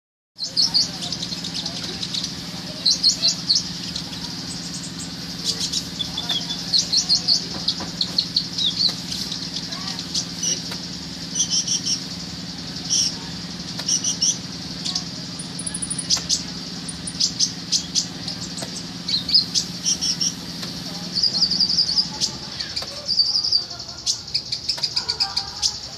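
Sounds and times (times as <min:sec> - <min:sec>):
songbird chirping and trilling: 0:00.4 - 0:25.9
steady low hum: 0:00.4 - 0:25.9.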